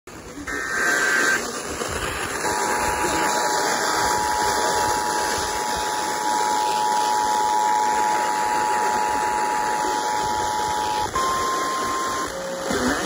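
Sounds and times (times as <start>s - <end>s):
radio background hiss: 0.1s - 11.2s, 11.8s - 13.0s.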